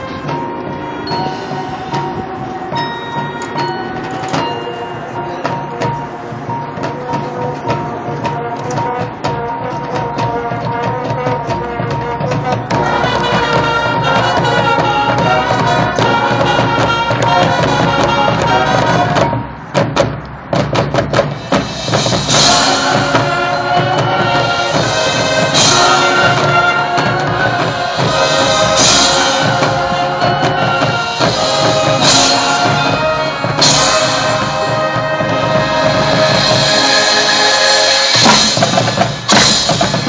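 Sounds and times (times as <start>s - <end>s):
marching band playing: 0.0s - 40.0s
sharp percussion hits: 0.0s - 40.0s.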